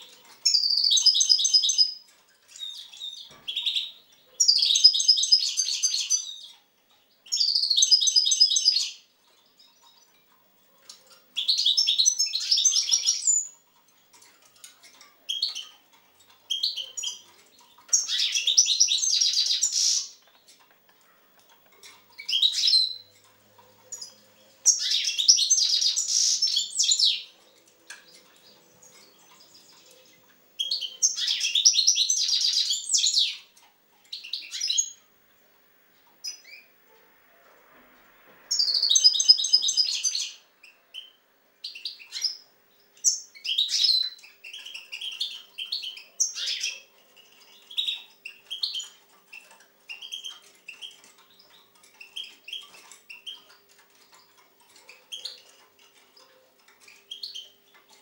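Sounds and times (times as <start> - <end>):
goldfinch twittering song: 0.0 - 35.1, 38.5 - 58.0.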